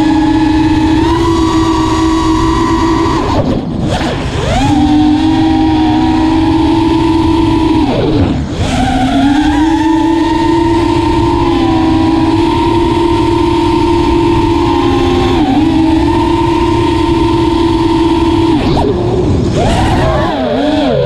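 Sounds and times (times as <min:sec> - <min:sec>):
quadcopter motors whining: 0:00.0 - 0:21.0
wind rush: 0:00.0 - 0:21.0.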